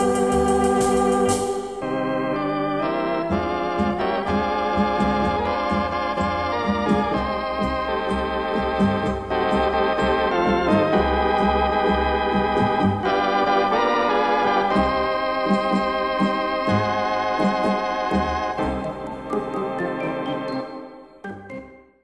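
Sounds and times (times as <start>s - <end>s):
organ-like chords with bass: 0.0s - 22.0s.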